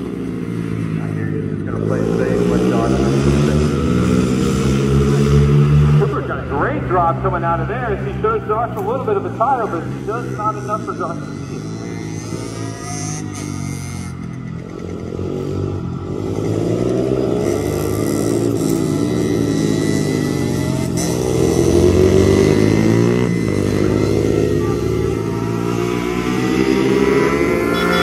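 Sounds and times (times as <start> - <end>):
mini motorbikes revving: 0.0 - 28.0.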